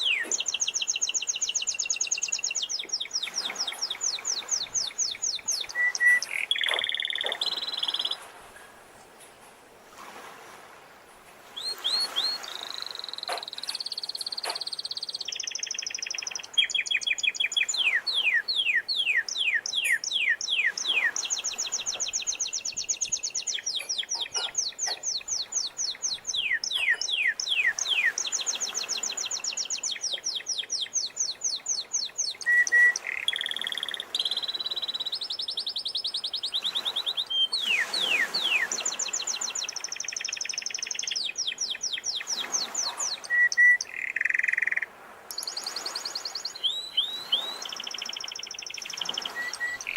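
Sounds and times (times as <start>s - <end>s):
canary singing: 0.0s - 8.2s, 11.6s - 49.9s
sea waves: 0.0s - 49.9s.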